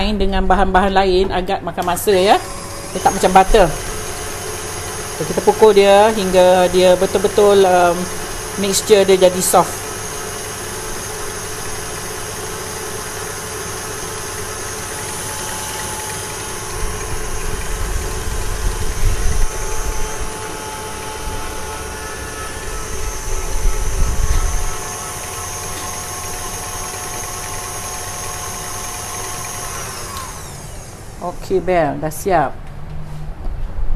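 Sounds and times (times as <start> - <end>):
electric mixer running: 1.8 - 32.2.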